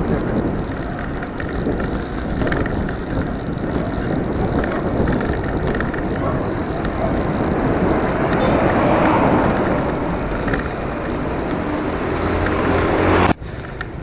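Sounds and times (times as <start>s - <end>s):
road and traffic noise: 0.0s - 14.0s.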